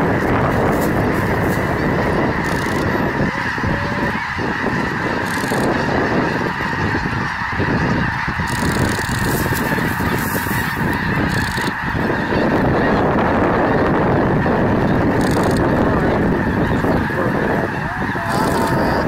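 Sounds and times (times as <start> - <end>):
flock of geese honking: 0.0 - 19.0.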